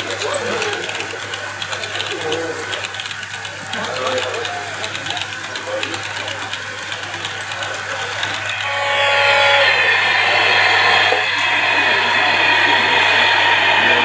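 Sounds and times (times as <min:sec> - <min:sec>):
crowd chatter: 0:00.0 - 0:14.0
model train running: 0:00.0 - 0:14.0.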